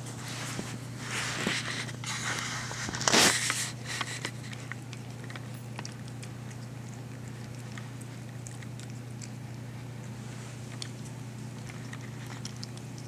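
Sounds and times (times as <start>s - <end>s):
cat chewing and licking: 0.4s - 13.0s.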